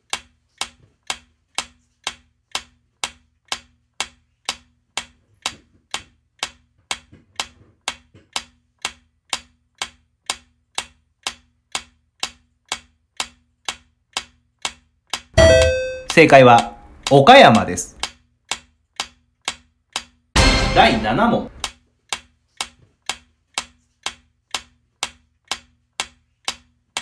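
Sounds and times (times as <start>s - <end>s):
clock ticking: 0.0s - 27.0s.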